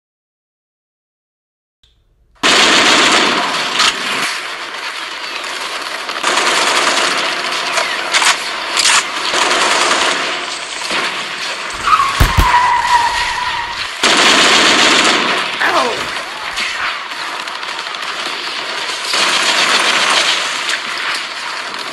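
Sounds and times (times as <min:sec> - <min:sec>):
automatic gunfire: 0:02.4 - 0:21.9.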